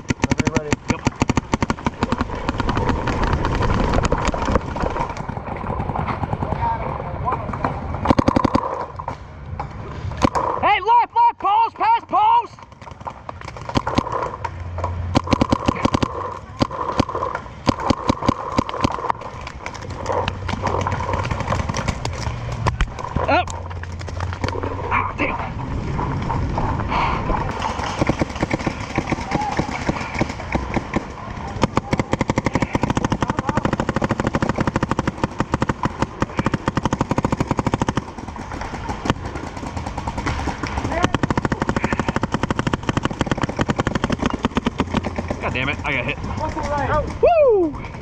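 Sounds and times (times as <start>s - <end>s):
paintball markers firing: 0.0s - 6.6s, 8.0s - 9.2s, 12.6s - 24.6s, 27.5s - 47.2s.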